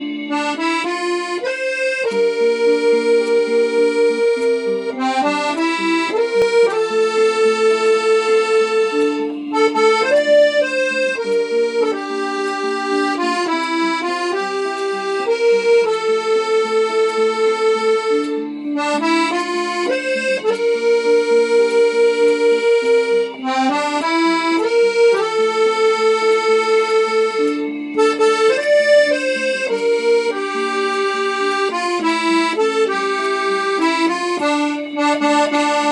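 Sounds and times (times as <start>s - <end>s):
instrumental background music: 0.0s - 35.9s.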